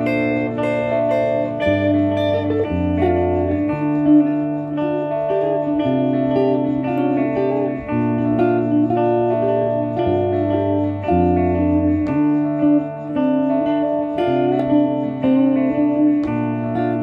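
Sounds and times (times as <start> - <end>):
low guitar notes: 0.0 - 17.0
picked guitar melody: 0.0 - 17.0.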